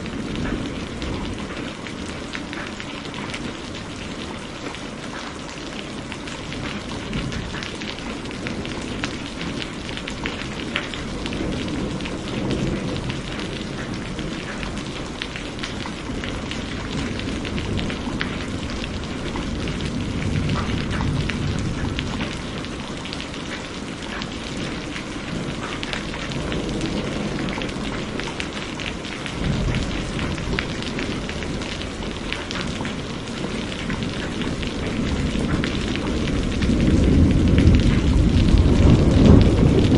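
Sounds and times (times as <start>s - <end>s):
thunder rumbling: 0.0s - 4.8s, 5.7s - 39.9s
heavy rain pattering: 0.0s - 39.9s.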